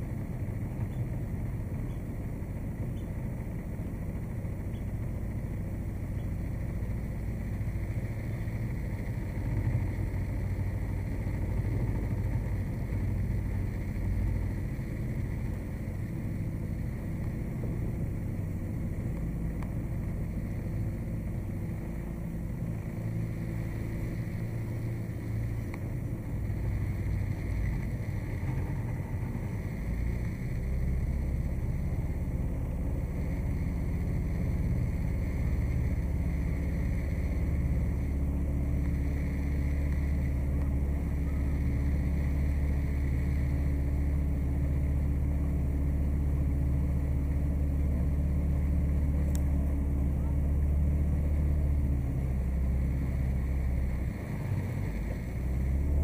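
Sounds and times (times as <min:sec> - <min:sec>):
motorboat engine humming: 0:00.0 - 0:56.0.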